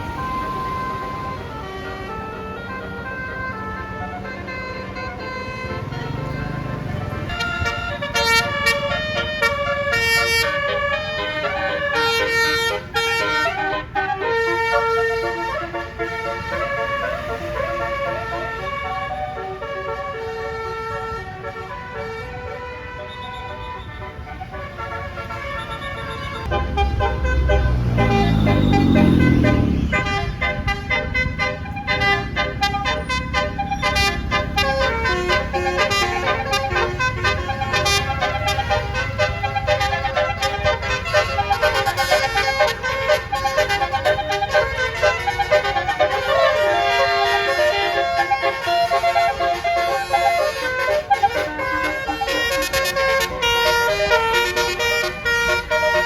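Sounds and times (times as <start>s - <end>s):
multi-note air horns: 0.0s - 56.0s
bus engine revving: 5.5s - 20.2s, 24.5s - 56.0s.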